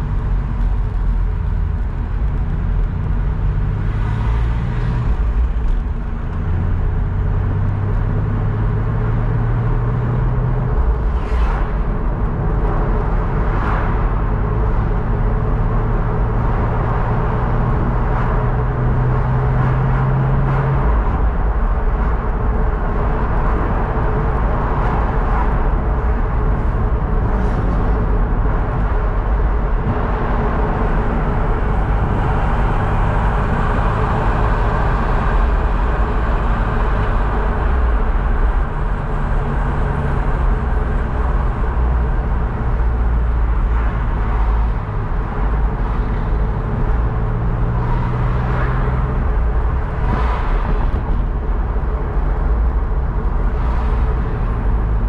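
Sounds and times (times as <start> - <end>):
car engine drone: 0.0 - 55.0
tyre and road noise: 0.0 - 55.0.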